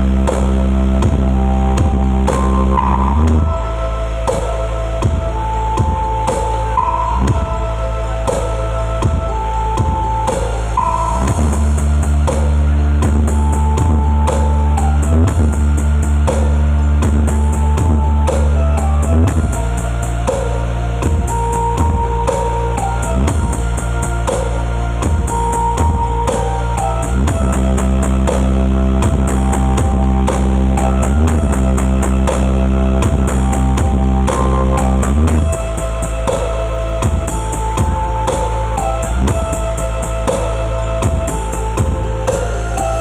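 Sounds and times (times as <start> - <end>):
loud rock music: 0.0 - 43.0.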